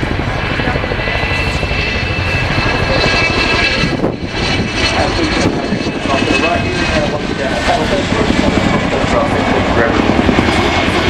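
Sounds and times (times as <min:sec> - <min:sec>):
helicopter rotor blades chopping: 0:00.0 - 0:11.0
high engine whine: 0:00.0 - 0:11.0.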